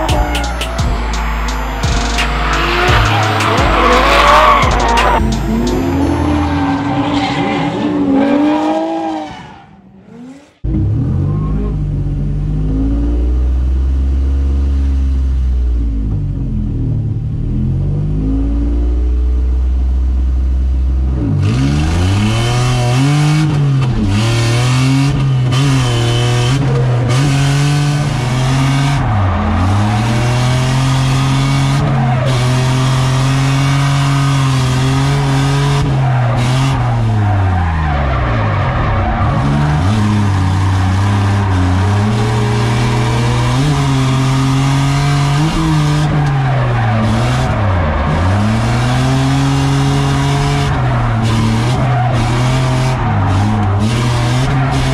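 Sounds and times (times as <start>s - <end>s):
car engine revving hard: 0.0s - 11.8s, 21.1s - 54.9s.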